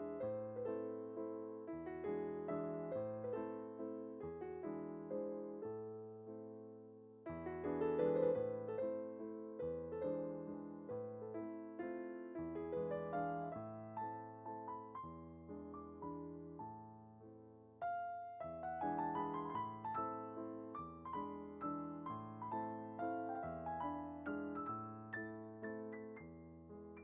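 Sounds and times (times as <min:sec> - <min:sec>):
gentle piano music: 0:00.0 - 0:27.0.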